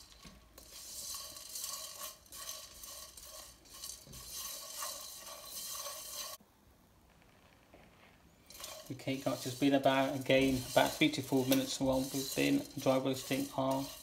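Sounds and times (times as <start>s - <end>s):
spatula scraping spices in wok: 0.0s - 6.4s, 8.4s - 14.0s.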